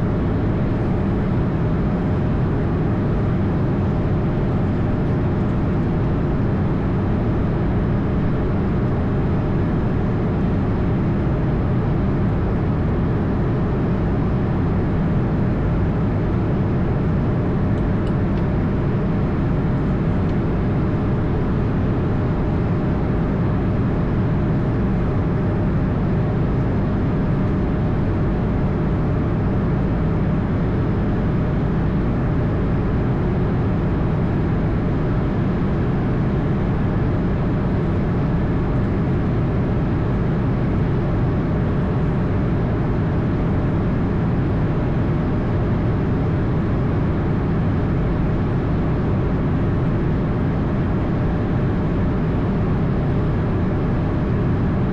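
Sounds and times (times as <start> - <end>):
cockpit airflow and engine drone: 0.0 - 54.9
faint steady hum: 0.0 - 54.9.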